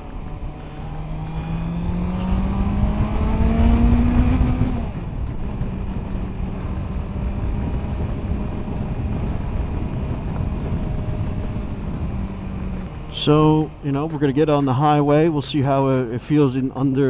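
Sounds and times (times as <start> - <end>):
motorcycle engine accelerating: 0.0 - 15.1
wind rumble on microphone: 0.0 - 15.4.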